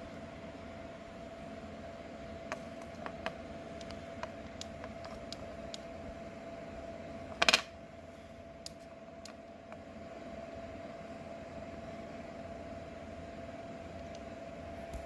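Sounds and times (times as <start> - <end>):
faint hum: 0.0 - 15.0
thin steady whine: 0.0 - 15.0.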